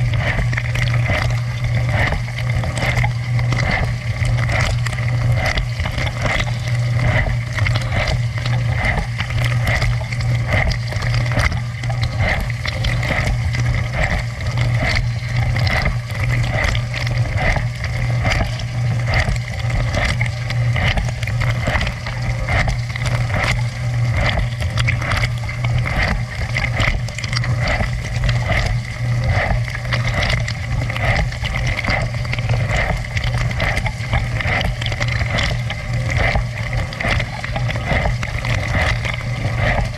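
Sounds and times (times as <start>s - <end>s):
pump humming: 0.0s - 39.9s
water spraying and splattering: 0.0s - 39.9s.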